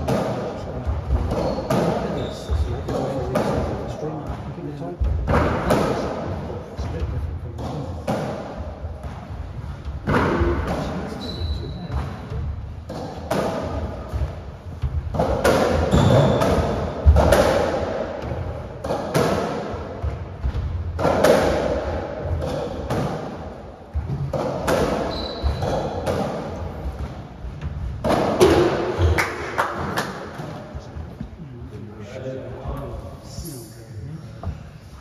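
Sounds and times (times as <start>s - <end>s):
rackets striking ball: 0.0s - 4.5s, 7.6s - 31.3s.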